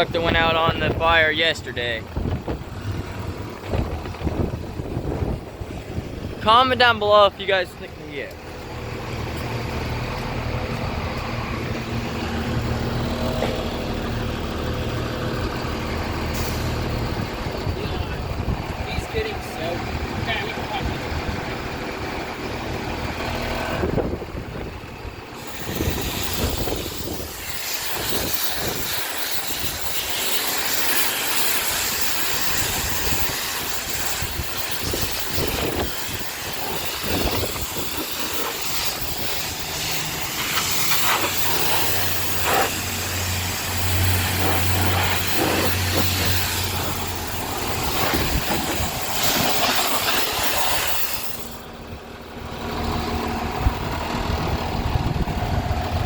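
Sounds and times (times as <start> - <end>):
hose water spraying: 0.3 - 22.0, 25.2 - 51.8.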